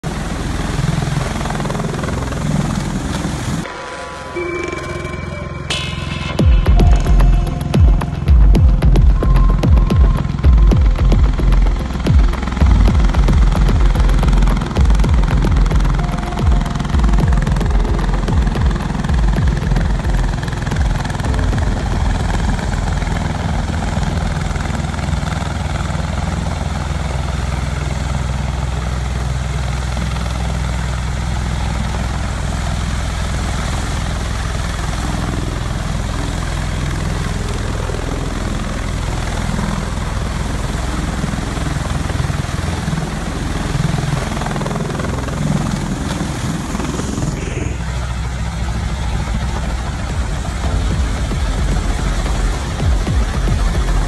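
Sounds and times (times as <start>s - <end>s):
aircraft rotors beating deeply: 0.0s - 4.0s, 4.7s - 54.0s.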